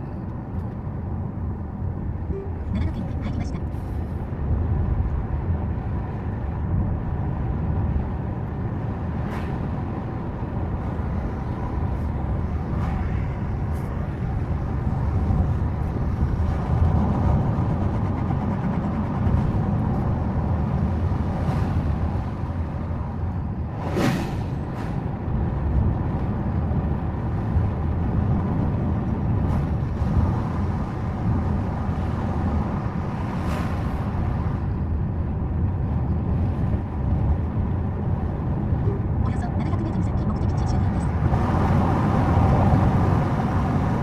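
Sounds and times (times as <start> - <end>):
road and engine rumble in car cabin: 0.0 - 44.0.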